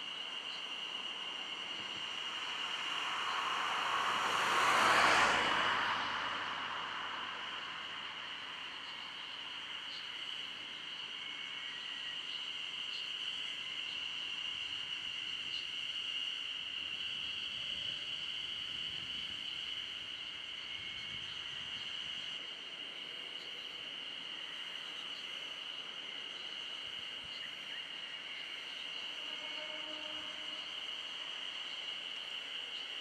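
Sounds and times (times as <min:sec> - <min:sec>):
insects singing: 0:00.0 - 0:22.4, 0:23.0 - 0:33.0
faint low rumble of railcar: 0:00.0 - 0:33.0.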